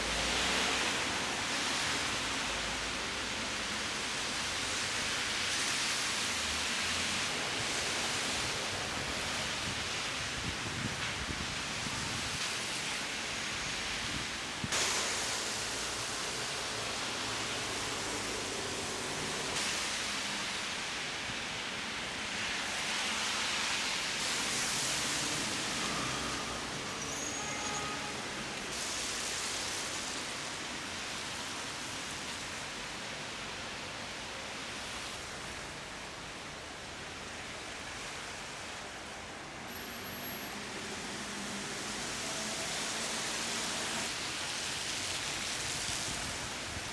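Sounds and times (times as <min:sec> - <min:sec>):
outdoor background hiss: 0:00.0 - 0:46.9.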